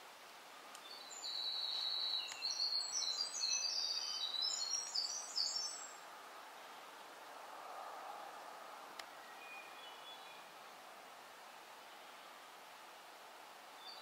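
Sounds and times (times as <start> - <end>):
songbird singing: 0.0 - 12.9, 13.6 - 14.0
faint background hiss: 0.0 - 14.0.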